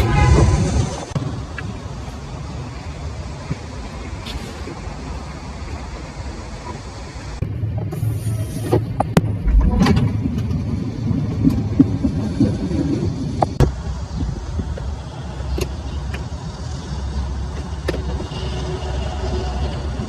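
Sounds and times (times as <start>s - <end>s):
low vehicle rumble: 0.0s - 20.0s.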